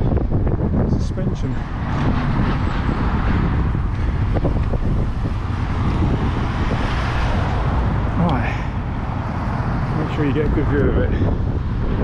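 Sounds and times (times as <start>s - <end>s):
road traffic driving past: 0.0s - 12.0s
wind buffeting microphone: 0.0s - 12.0s.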